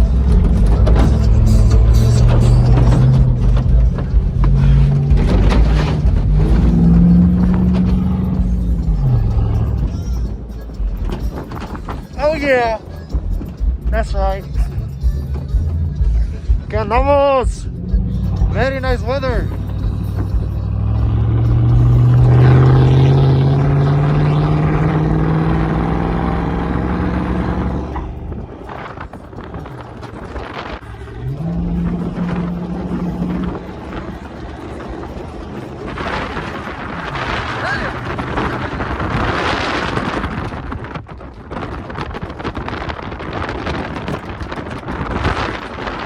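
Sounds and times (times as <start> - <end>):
truck engine revving under load: 0.0 - 12.1, 17.6 - 46.0
wind buffeting microphone: 0.0 - 46.0.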